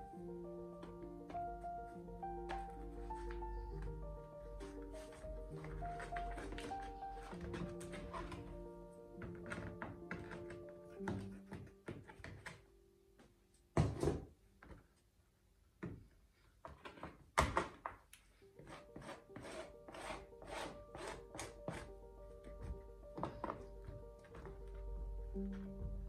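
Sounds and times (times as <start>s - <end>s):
quiet background music: 0.0s - 26.0s.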